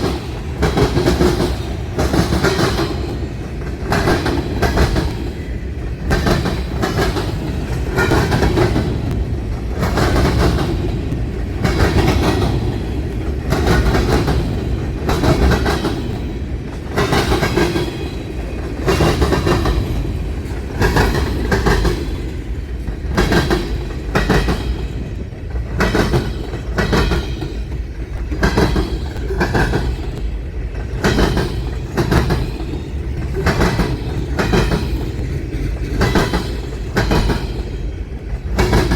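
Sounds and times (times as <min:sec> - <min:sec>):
low train rumble: 0:00.0 - 0:38.9
train wheels clacking over rails: 0:00.0 - 0:38.9.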